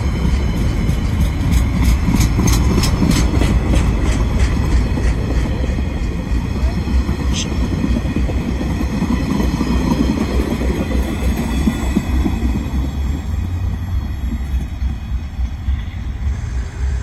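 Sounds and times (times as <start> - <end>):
freight train wheels clattering: 0.0 - 16.4.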